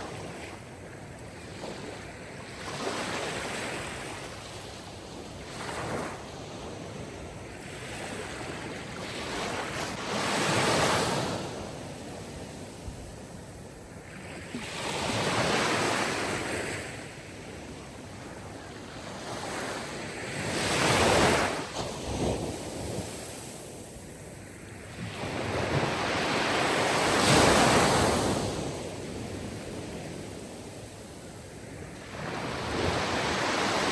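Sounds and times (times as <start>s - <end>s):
waves breaking and washing in: 0.0s - 33.9s.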